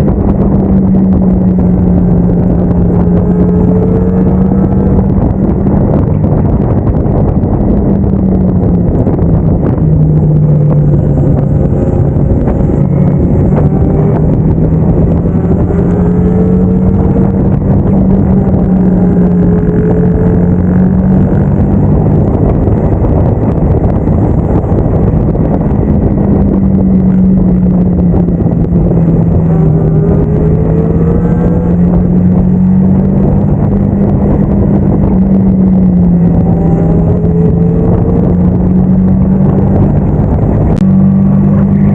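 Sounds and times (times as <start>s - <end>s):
motorcycle engine accelerating: 0.0s - 41.9s
wind and road noise: 0.0s - 41.9s.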